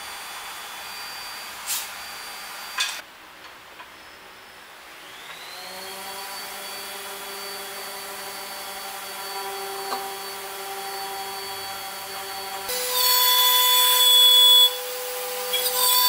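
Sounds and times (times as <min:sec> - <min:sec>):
router spindle whine: 0:00.0 - 0:03.0, 0:03.8 - 0:16.0.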